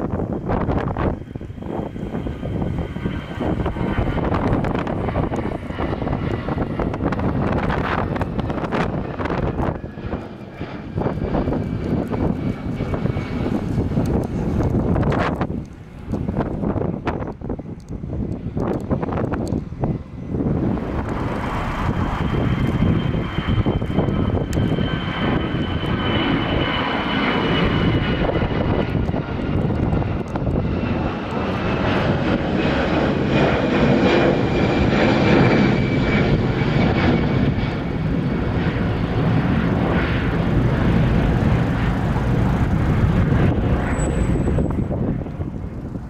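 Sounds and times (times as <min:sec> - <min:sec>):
faint high engine whine: 0:00.0 - 0:46.0
jet engines rumbling: 0:00.0 - 0:46.0.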